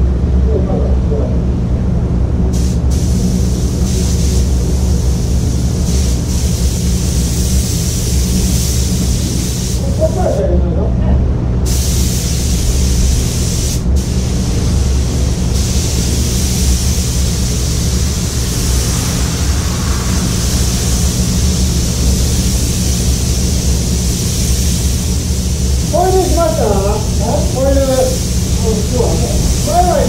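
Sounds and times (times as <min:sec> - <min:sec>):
ventilation hum: 0:00.0 - 0:30.0
spray gun hissing: 0:02.5 - 0:10.4, 0:11.6 - 0:30.0.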